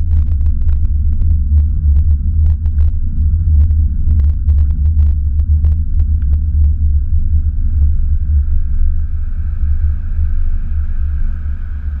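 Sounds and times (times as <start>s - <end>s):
rising whine: 0.0s - 12.0s.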